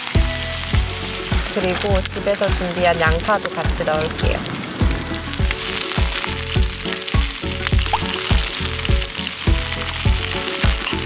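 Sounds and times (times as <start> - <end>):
meat sizzling in frying pan: 0.0 - 11.0
music with drum beat: 0.0 - 11.0.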